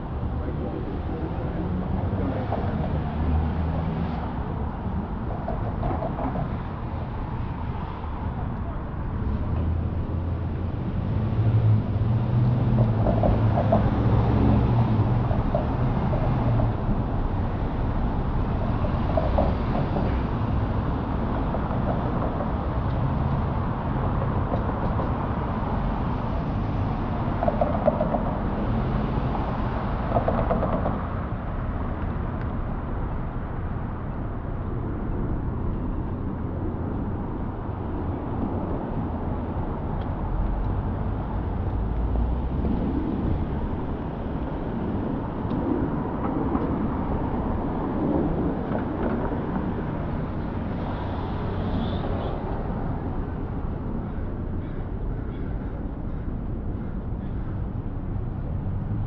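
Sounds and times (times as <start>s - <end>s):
rumble of passing cars and buses: 0.0s - 59.0s.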